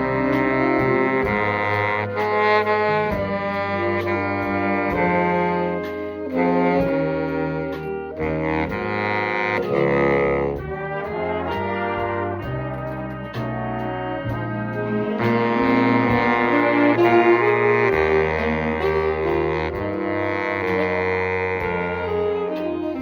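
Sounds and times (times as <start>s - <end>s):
jazz horns playing chords: 0.0s - 23.0s.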